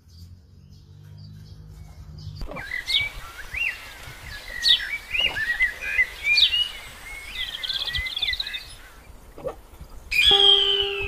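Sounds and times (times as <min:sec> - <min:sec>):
small birds chirping and whistling: 0:00.0 - 0:09.1, 0:10.1 - 0:11.0
faint outdoor background hiss: 0:00.0 - 0:11.0.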